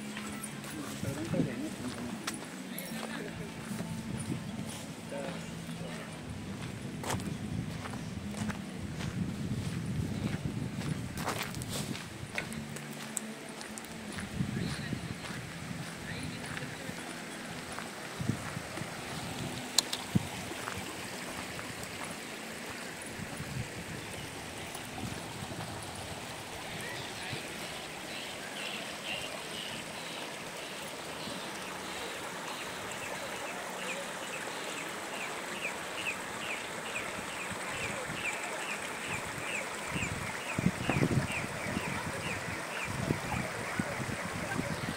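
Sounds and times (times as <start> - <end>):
stream running over rocks: 0.0 - 44.9.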